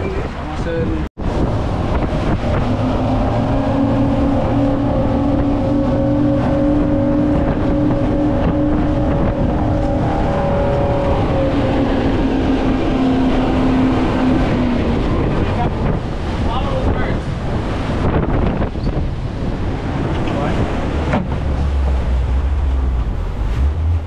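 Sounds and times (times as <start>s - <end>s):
outboard motor drone: 0.0s - 24.0s
rush of wind and spray: 0.0s - 24.0s.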